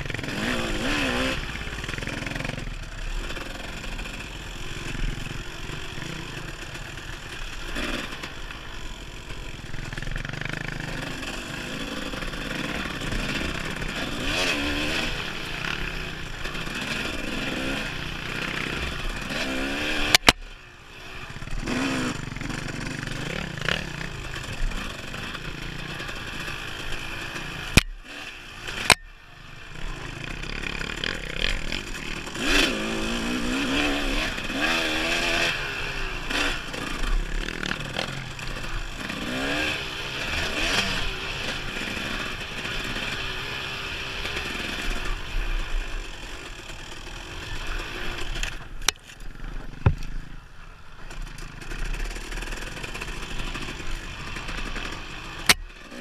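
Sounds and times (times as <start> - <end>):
dirt bike engine revving: 0.0 - 48.9, 51.3 - 56.0.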